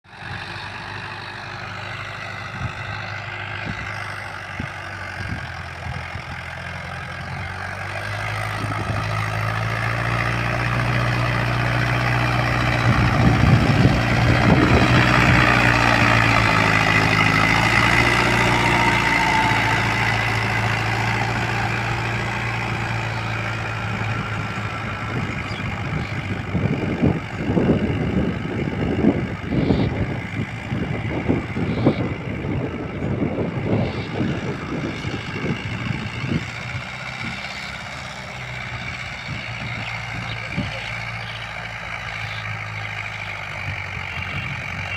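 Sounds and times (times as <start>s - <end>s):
tiller engine running: 0.1s - 44.9s.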